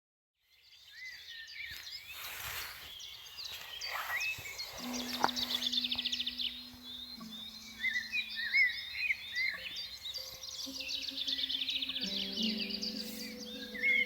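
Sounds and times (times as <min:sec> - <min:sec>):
birds singing and calling: 0:00.4 - 0:14.0
bird trill: 0:00.8 - 0:14.0.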